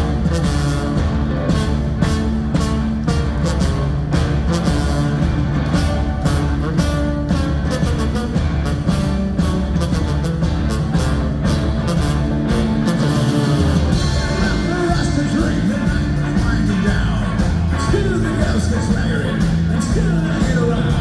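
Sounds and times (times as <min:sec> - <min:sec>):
punk band playing live: 0:00.0 - 0:21.0.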